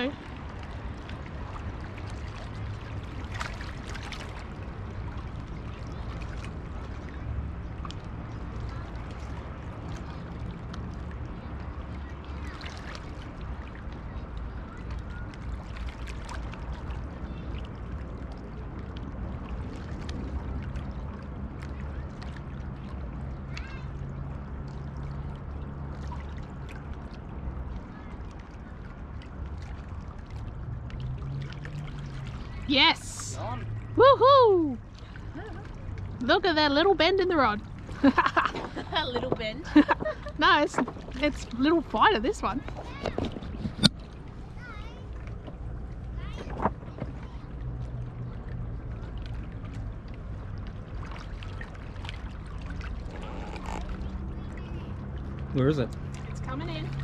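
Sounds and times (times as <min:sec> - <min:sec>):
little splashes: 0:00.0 - 0:57.0
small waves lapping on rocks: 0:00.0 - 0:57.0
steady low rumble: 0:00.0 - 0:57.0.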